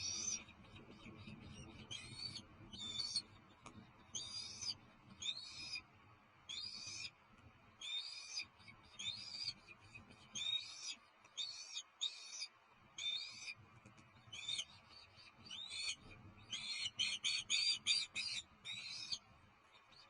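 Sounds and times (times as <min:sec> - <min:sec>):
small birds calling: 0:00.0 - 0:20.0.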